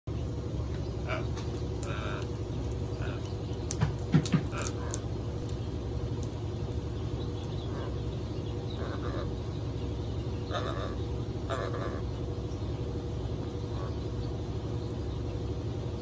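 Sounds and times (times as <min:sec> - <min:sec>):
faint hum: 0:00.1 - 0:16.0.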